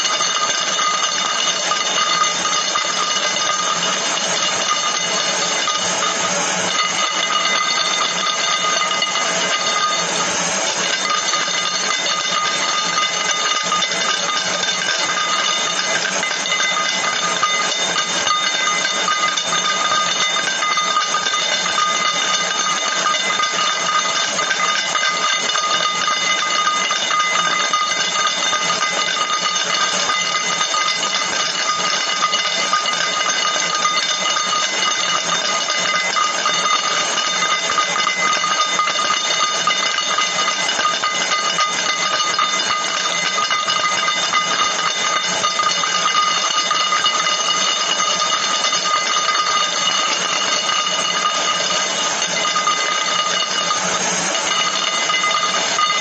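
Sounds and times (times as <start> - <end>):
high steady tones: 0.0 - 56.0.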